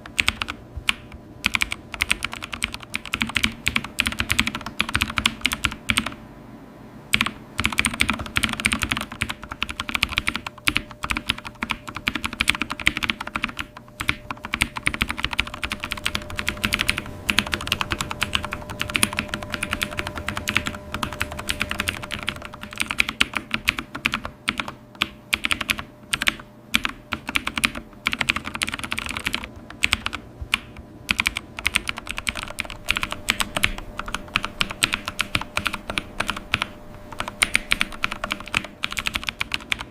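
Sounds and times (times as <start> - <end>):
computer keyboard typing: 0.0 - 6.2, 7.1 - 39.9.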